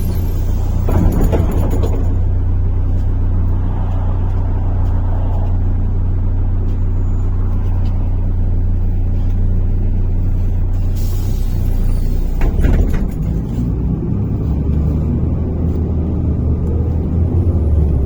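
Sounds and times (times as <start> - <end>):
bus engine drone: 0.0 - 18.0
road rumble: 0.0 - 18.0.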